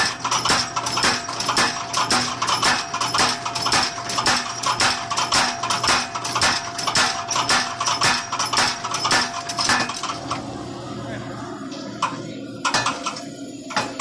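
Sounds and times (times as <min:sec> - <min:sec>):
power hammer clanging on anvil: 0:00.0 - 0:10.2, 0:12.0 - 0:14.0.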